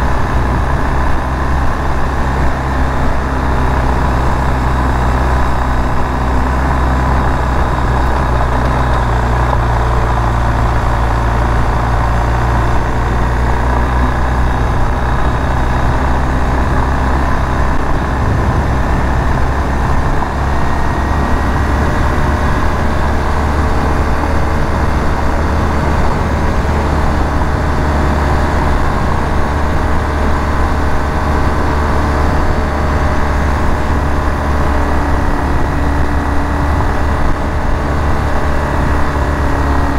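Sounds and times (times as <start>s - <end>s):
motorcycle engine: 0.0s - 39.9s
wind: 0.0s - 39.9s.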